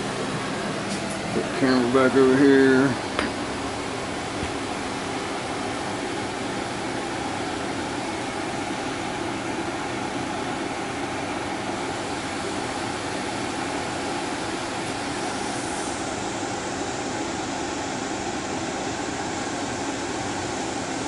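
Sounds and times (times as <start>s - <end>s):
air conditioner fan rush: 0.0s - 21.0s.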